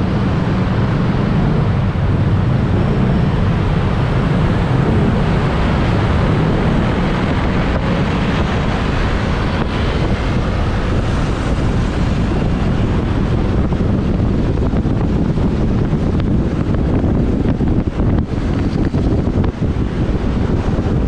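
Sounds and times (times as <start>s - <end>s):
motorbike engine rumble: 0.0s - 21.0s
traffic: 0.0s - 21.0s
wind buffeting microphone: 0.0s - 21.0s.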